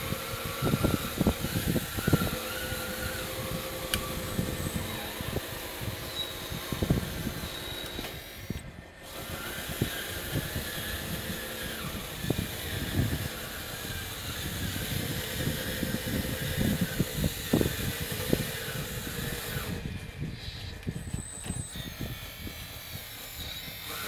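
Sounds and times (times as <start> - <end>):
motor and hydraulic pump whine: 0.0 - 24.0.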